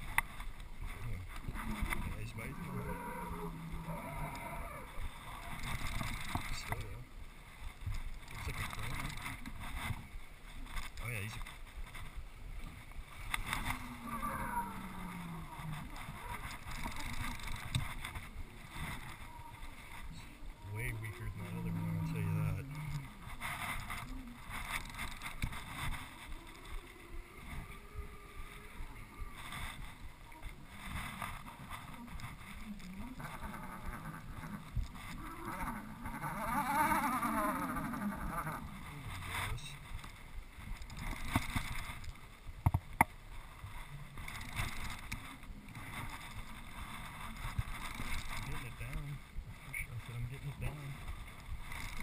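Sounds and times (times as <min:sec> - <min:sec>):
rustles and small knocks: 0:00.0 - 0:52.0.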